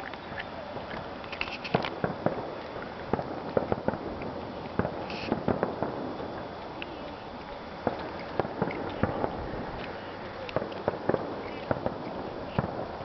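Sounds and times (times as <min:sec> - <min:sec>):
fireworks crackle: 0:01.3 - 0:13.0
fireworks popping and banging: 0:01.4 - 0:07.0, 0:07.7 - 0:13.0.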